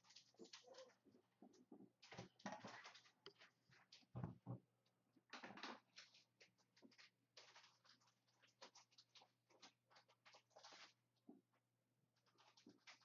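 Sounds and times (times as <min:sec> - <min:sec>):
faint rustling and scratching: 0:00.0 - 0:13.0.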